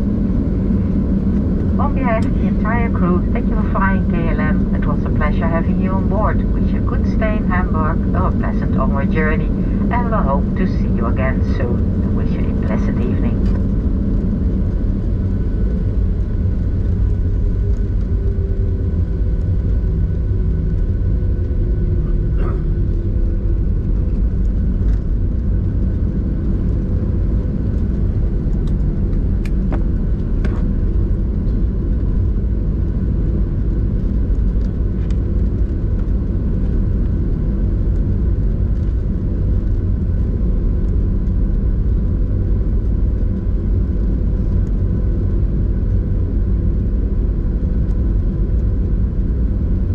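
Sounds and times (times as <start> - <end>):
airplane cabin rumble: 0.0 - 49.9
steady hum tones: 0.0 - 49.9.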